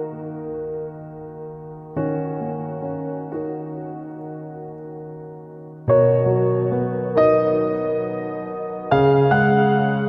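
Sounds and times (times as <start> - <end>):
soft keyboard chords: 0.0 - 10.0.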